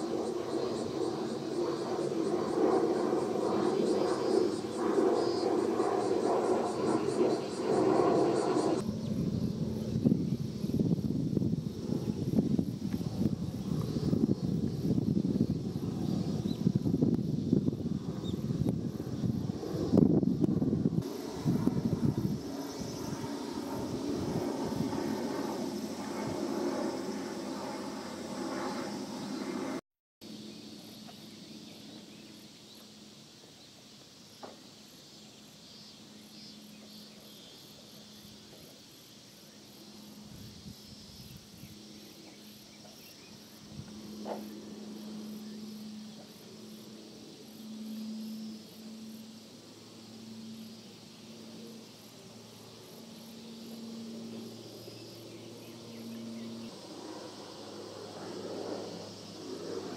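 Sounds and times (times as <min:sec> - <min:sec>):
distant aircraft hum: 0:00.0 - 0:59.9
insects chirping: 0:00.0 - 0:59.9.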